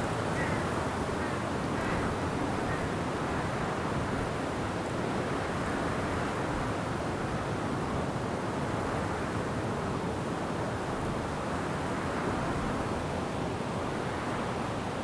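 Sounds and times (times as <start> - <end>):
wind through trees: 0.0 - 15.0.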